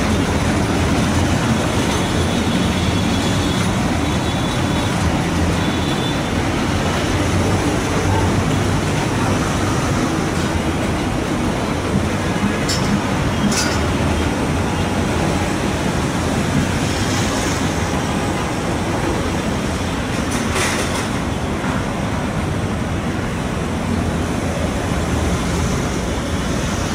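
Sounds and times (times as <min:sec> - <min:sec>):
city traffic noise: 0:00.0 - 0:26.9
train rumbling on track: 0:00.0 - 0:26.9.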